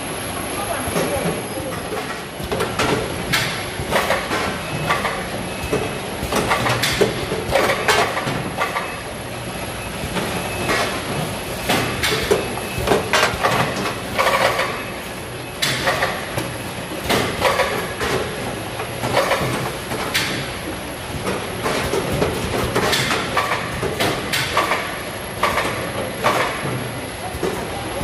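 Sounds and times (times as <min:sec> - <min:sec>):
conveyor humming: 0:00.0 - 0:28.0
fruit cups and boxes clattering: 0:01.0 - 0:09.0, 0:10.1 - 0:14.8, 0:15.6 - 0:20.5, 0:21.2 - 0:27.8.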